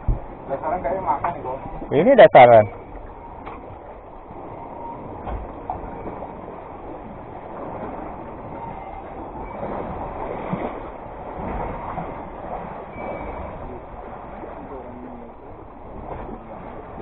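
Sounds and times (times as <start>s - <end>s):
fishing boat rumble and wash: 0.0s - 17.0s.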